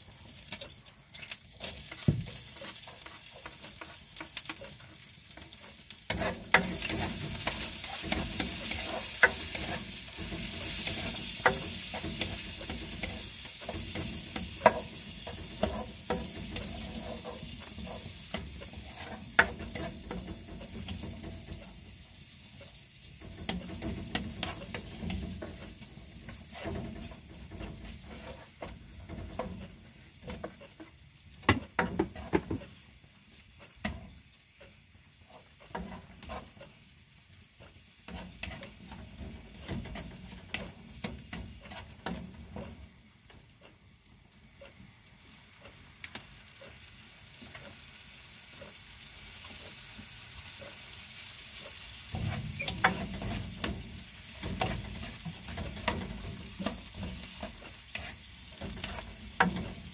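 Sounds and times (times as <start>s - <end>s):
food sizzling in a wok: 0.0s - 59.9s
spatula scraping and tapping pan: 0.4s - 36.9s, 37.6s - 43.9s, 44.6s - 47.9s, 48.5s - 59.9s.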